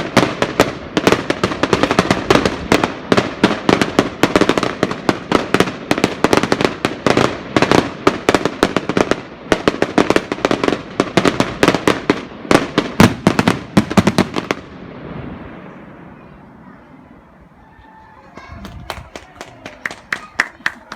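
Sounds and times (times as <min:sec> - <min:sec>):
fireworks bangs and crackles: 0:00.0 - 0:17.4
fireworks rumble: 0:00.0 - 0:20.9.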